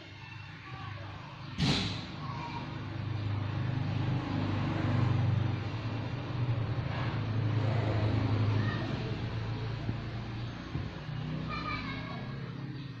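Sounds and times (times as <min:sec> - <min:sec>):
vehicle engine humming: 0:01.6 - 0:13.0.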